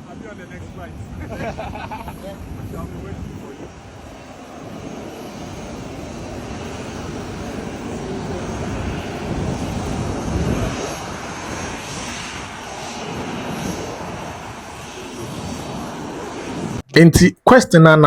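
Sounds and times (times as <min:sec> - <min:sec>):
jet engines running: 0:00.0 - 0:16.8.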